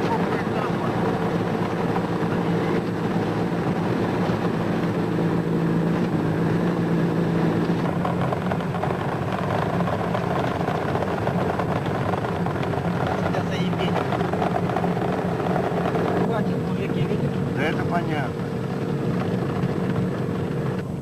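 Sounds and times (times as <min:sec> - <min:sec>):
van engine droning: 0:00.0 - 0:21.0.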